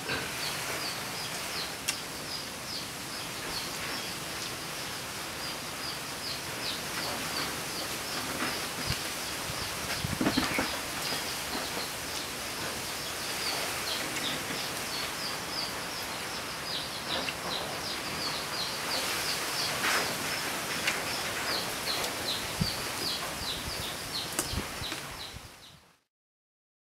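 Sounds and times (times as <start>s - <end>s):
outdoor background noise: 0.0s - 26.1s.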